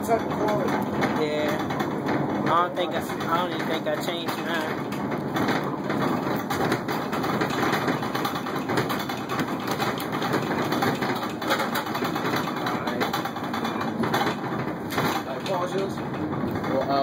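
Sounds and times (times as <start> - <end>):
knocks and rattles in cargo box: 0.0 - 17.0
truck engine and road rumble: 0.0 - 17.0.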